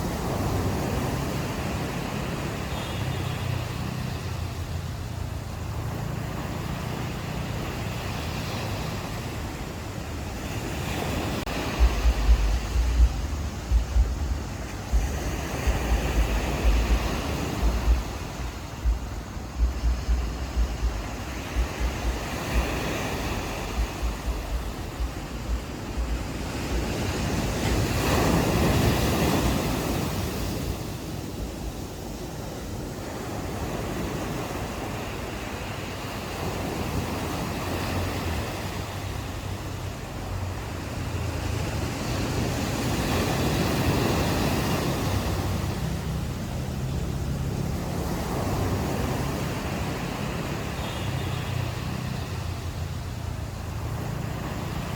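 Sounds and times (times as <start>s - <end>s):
ocean waves washing onto shore: 0.0s - 54.9s
wind buffeting microphone: 3.8s - 54.9s.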